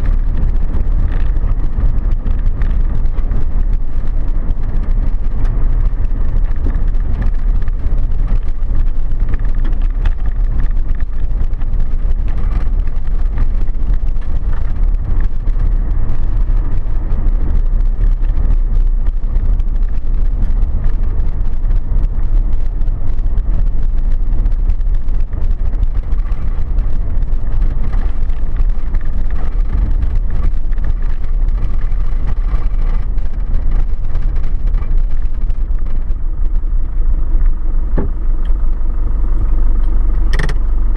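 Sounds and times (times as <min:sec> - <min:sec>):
vehicle rumbling on gravel road: 0:00.0 - 0:40.9.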